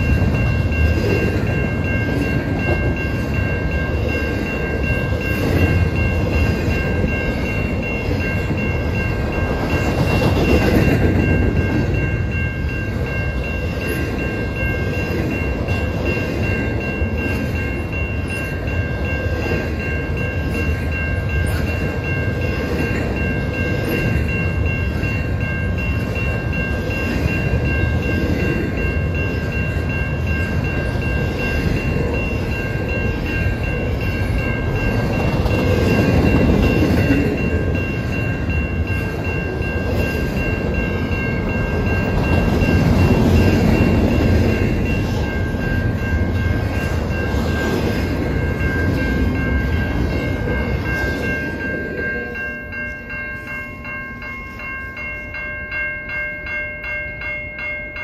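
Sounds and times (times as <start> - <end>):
train wheels clattering on rails: 0.0 - 53.5.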